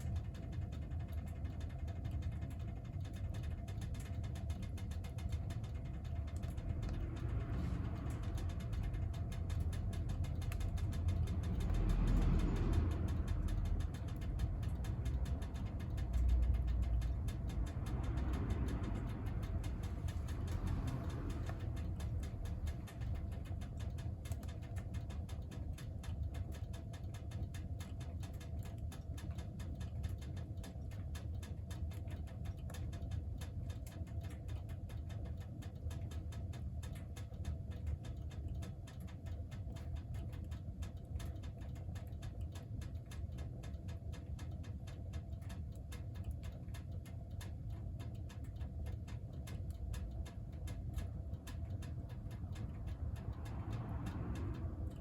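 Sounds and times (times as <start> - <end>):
fire rumbling in wood stove: 0.0 - 55.0.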